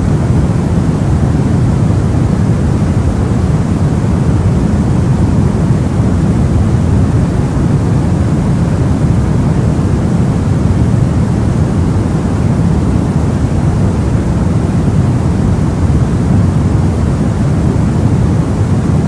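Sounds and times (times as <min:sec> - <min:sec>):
deep rumbling white noise: 0:00.0 - 0:19.0.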